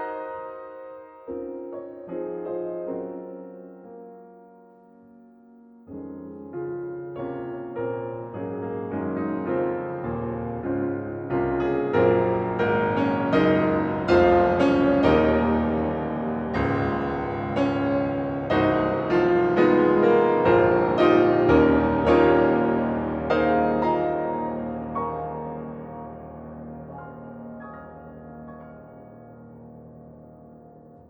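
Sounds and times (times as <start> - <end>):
piano playing: 0.0 - 31.0.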